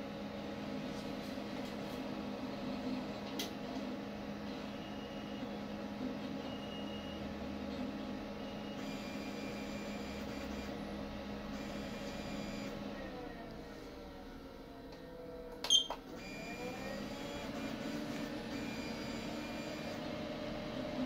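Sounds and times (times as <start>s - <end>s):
printer fans and motors humming: 0.0s - 21.0s.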